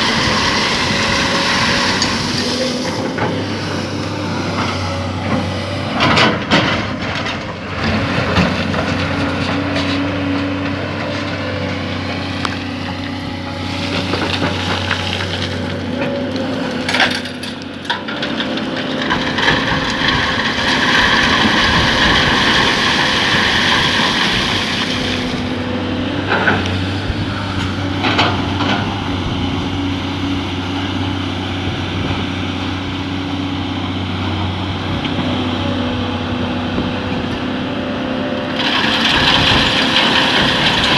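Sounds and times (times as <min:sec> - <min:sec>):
excavator diesel engine under load: 0:00.0 - 0:40.9.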